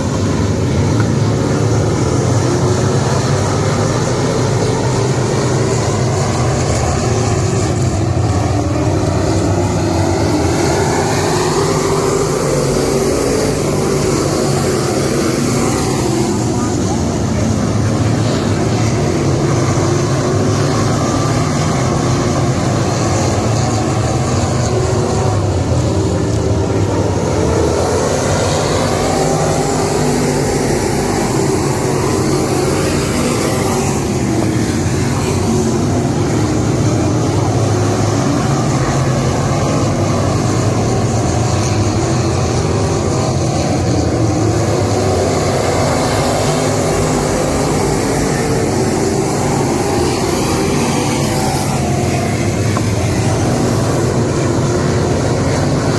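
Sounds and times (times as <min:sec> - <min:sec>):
race car engines running hard: 0:00.0 - 0:55.9.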